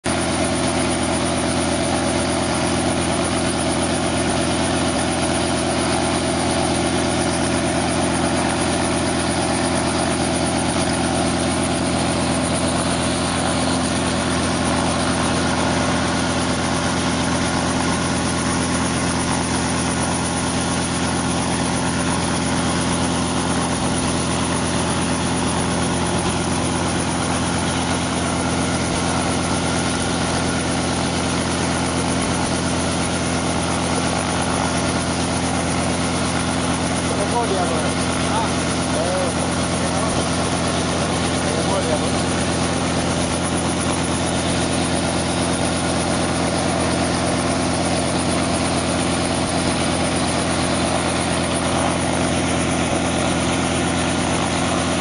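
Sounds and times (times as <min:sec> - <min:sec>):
helicopter engine idling: 0:00.0 - 0:55.0
helicopter rotor turning slowly: 0:00.1 - 0:55.0.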